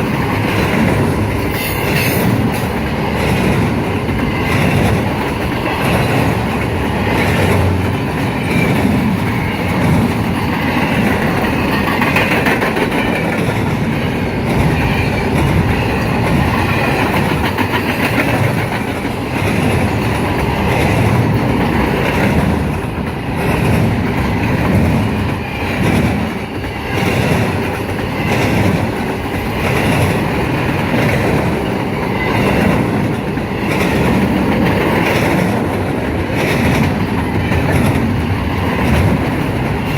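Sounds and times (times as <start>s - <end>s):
freight train cars rolling past: 0.0s - 39.9s
wheels clacking over rail joints: 0.0s - 39.9s.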